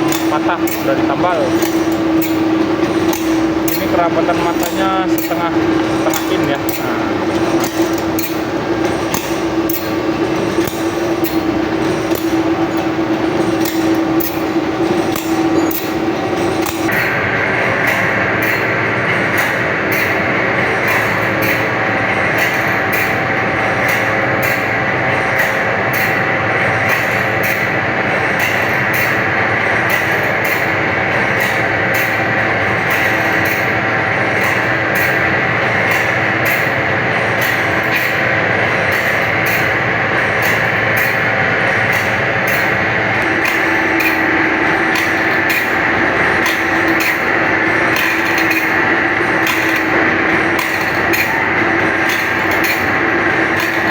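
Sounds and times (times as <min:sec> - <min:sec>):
machine grinding saw teeth: 0:00.0 - 0:53.9
regular mechanical tick: 0:00.0 - 0:53.9.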